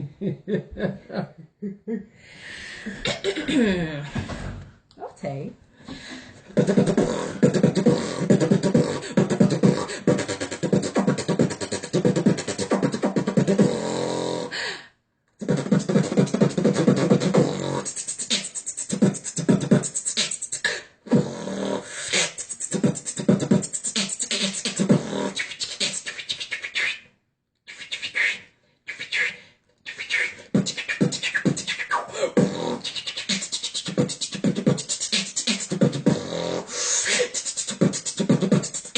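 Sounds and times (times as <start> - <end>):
beatboxing: 2.8 - 4.5, 5.9 - 14.6, 15.4 - 27.1, 27.7 - 38.9.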